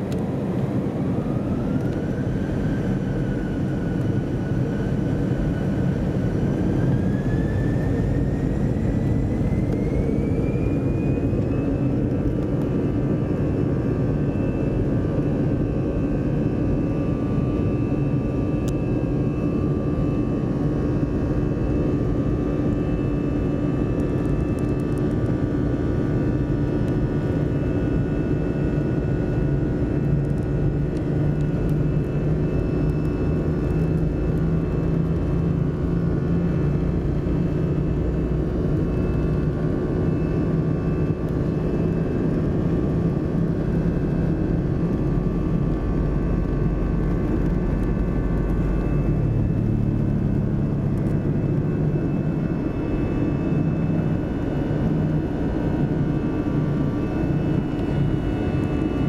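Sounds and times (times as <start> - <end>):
jet engines heard inside cabin: 0.0 - 59.0.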